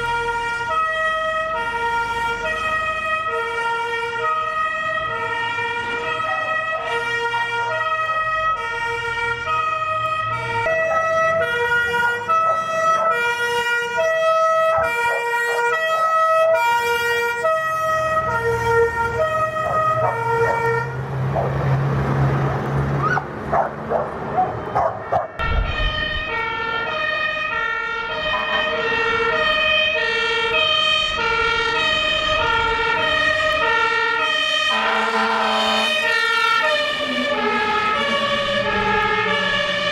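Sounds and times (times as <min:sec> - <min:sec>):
second siren: 0:00.0 - 0:22.2, 0:22.9 - 0:39.9
road noise: 0:00.0 - 0:39.9
truck engine: 0:00.0 - 0:39.9
two-tone fire engine siren: 0:00.0 - 0:39.9.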